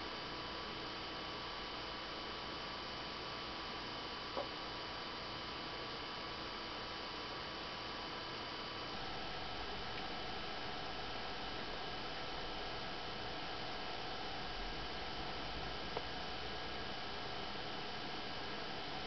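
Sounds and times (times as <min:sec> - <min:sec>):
projector cooling fan humming: 0:00.0 - 0:19.0.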